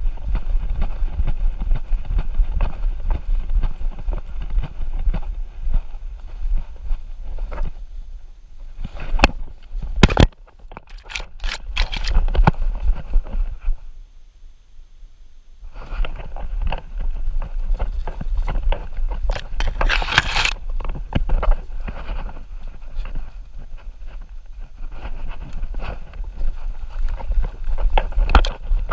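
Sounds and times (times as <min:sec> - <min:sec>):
low rumble of camera jostling: 0:00.0 - 0:14.0, 0:15.7 - 0:28.9.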